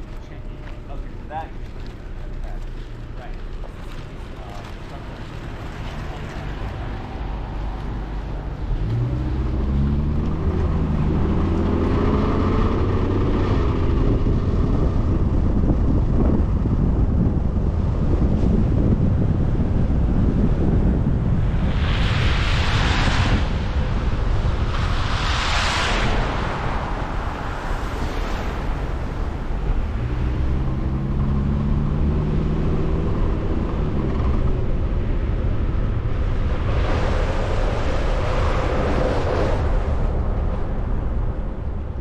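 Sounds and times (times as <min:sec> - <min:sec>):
road and wind noise: 0:00.0 - 0:42.0.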